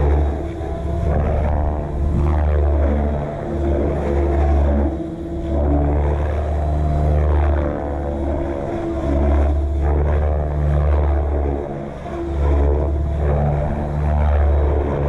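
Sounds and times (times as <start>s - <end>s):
heavy low rumble: 0.0s - 15.0s
rc helicopter rotor whine: 0.0s - 15.0s.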